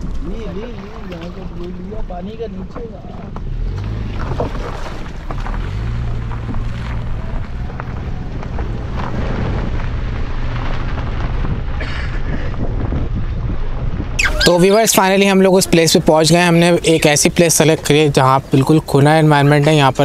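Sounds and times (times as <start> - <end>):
car engine hum: 0.0 - 20.0
road and wind noise: 0.0 - 20.0.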